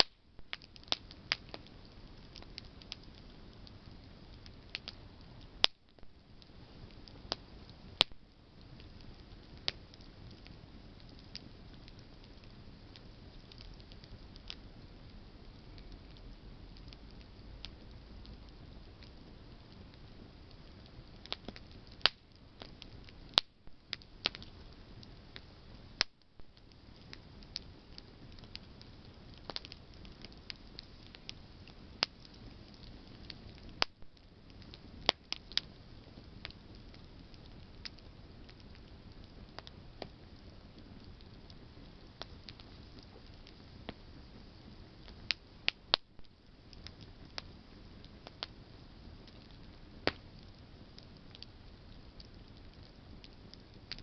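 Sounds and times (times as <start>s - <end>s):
campfire crackling and popping: 0.0s - 54.0s
low fire hiss: 0.0s - 54.0s.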